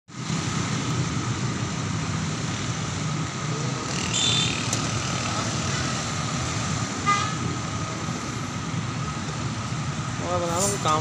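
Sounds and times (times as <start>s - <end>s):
distant road traffic: 0.1s - 11.0s.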